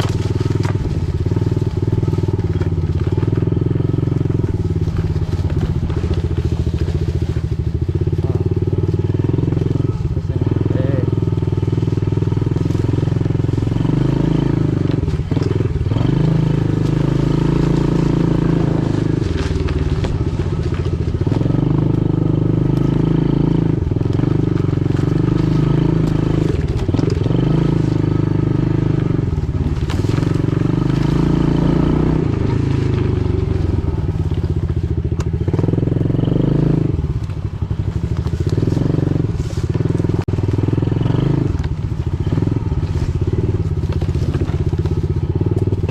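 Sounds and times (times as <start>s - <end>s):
small motorbike engine revving: 0.0s - 45.9s.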